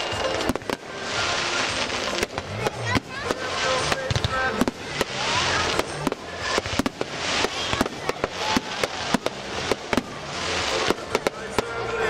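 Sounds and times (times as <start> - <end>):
fireworks bangs: 0.0 - 12.0
fireworks hissing and crackling: 0.0 - 12.0.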